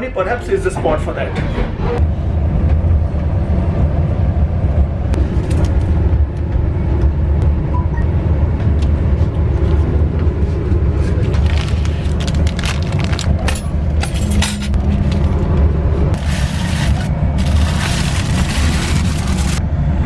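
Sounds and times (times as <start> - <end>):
train coach rumble: 0.0 - 20.0.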